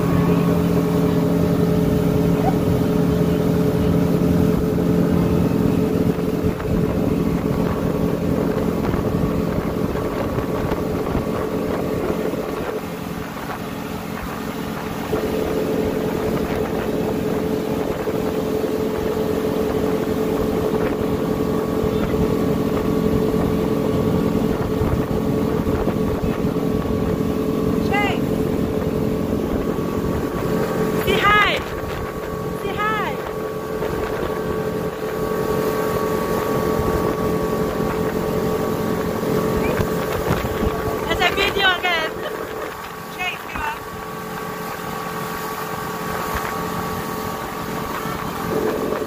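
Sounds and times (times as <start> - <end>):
outboard motor running: 0.0 - 49.0
wake water rushing: 0.0 - 49.0
wind on microphone: 0.0 - 49.0.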